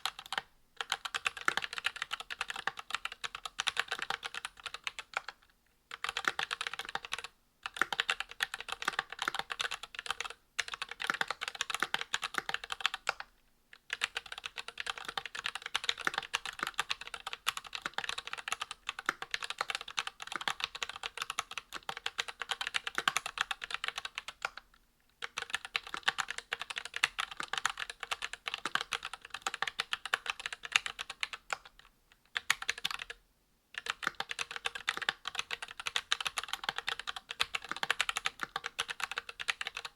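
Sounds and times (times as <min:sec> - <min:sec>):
mechanical keyboard typing: 0:00.0 - 0:24.6, 0:25.2 - 0:33.2, 0:33.8 - 0:39.9.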